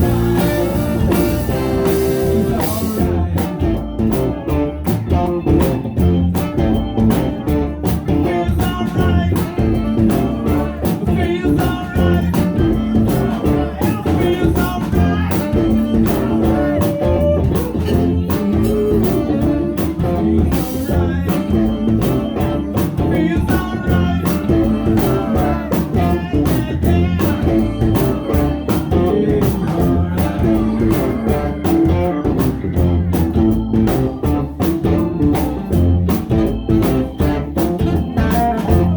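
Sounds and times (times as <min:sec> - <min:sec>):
guitar: 0:00.0 - 0:38.9
person singing: 0:00.0 - 0:38.9
steady drum beat: 0:00.0 - 0:38.9.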